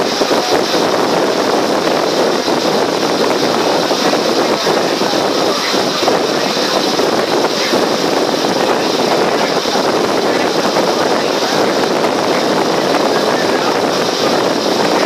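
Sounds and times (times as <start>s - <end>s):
motor ferry engine and water rush: 0.0s - 15.0s.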